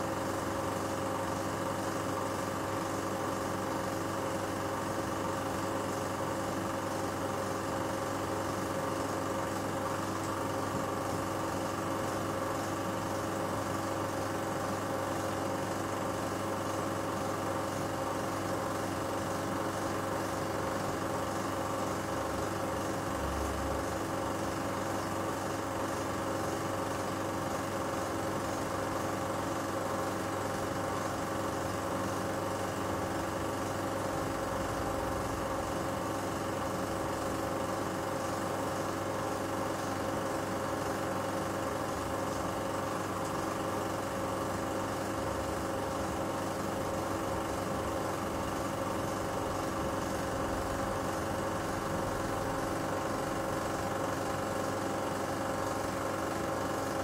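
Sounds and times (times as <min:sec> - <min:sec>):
film projector humming: 0:00.0 - 0:57.0.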